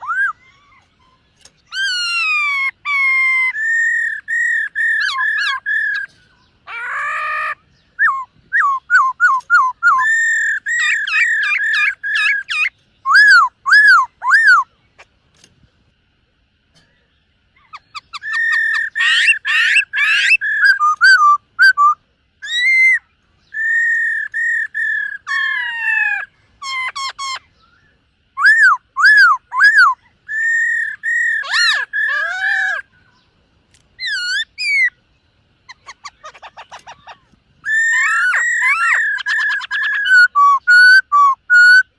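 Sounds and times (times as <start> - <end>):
bird singing whistled notes: 0.0 - 14.8, 17.2 - 33.4, 34.0 - 35.0, 35.7 - 41.9.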